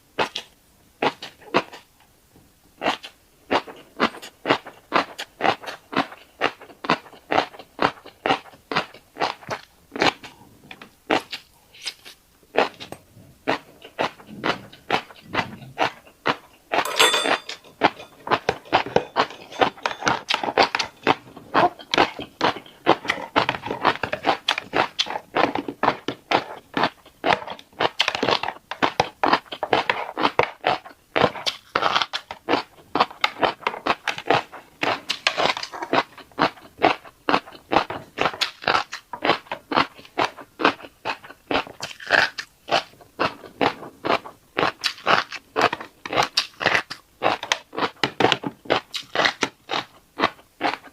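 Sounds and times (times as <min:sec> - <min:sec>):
chewing fish roe: 0:00.2 - 0:01.9, 0:02.8 - 0:16.8, 0:17.8 - 0:50.9.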